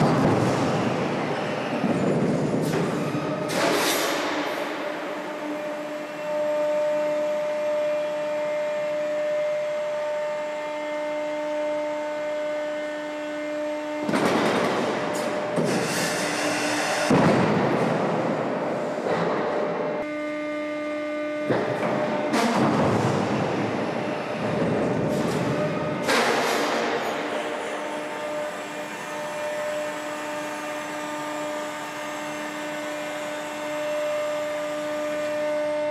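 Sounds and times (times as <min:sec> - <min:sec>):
hydraulic rig whine: 0:00.0 - 0:35.9.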